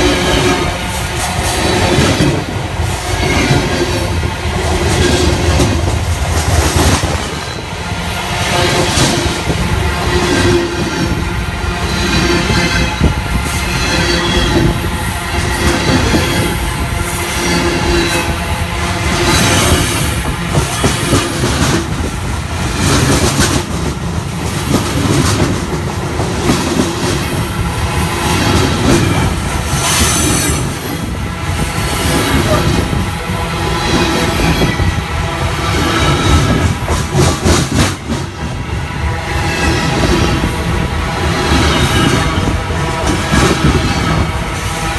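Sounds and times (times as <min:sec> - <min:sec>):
rail singing whine: 0:00.0 - 0:44.9
train wheels rumbling on rails: 0:00.0 - 0:44.9.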